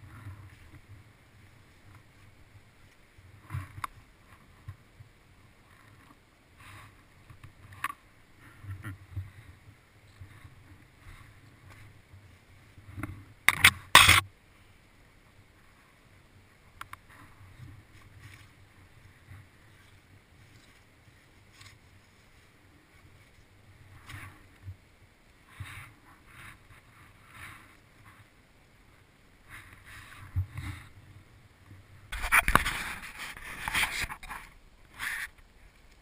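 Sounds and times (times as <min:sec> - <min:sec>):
dry leaves and husks rustling: 0:00.0 - 0:36.0.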